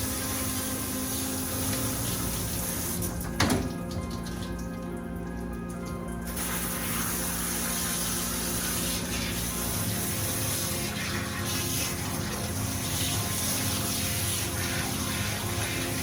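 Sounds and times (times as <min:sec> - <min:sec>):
water running: 0:00.0 - 0:16.0.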